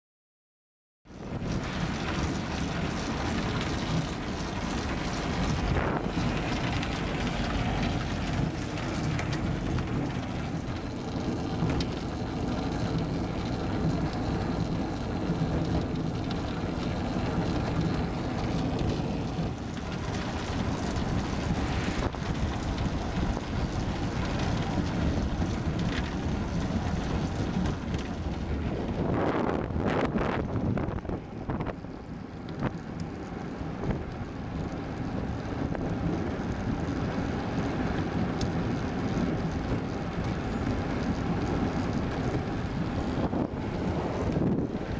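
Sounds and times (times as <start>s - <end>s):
tyre and road rumble: 1.1s - 44.9s
wind buffeting microphone: 1.1s - 44.9s.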